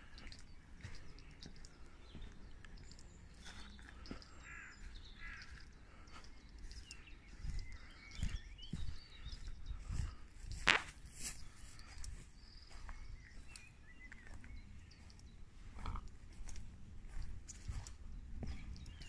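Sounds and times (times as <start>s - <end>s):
birds chirping: 0.0s - 19.0s
footsteps on paving and grass: 0.0s - 19.0s.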